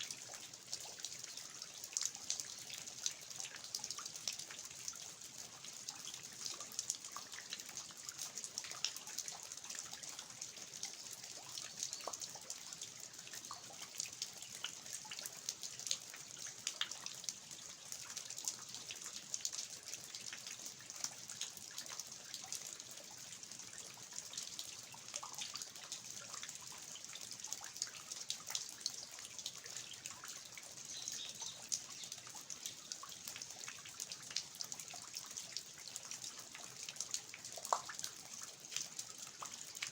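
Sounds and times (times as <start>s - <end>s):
steady rain falling: 0.0s - 39.9s
water dripping from eaves: 0.0s - 39.9s.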